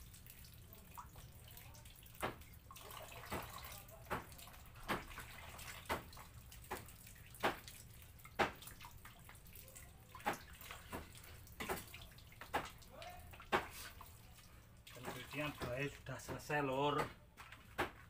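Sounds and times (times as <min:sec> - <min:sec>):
tap water running: 0:00.0 - 0:18.0
water splashing in a basin: 0:00.0 - 0:18.0.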